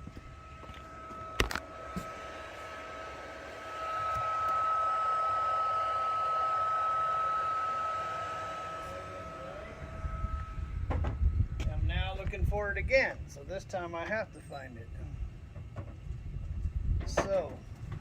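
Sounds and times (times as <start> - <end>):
blower fan whining: 0.0 - 18.0.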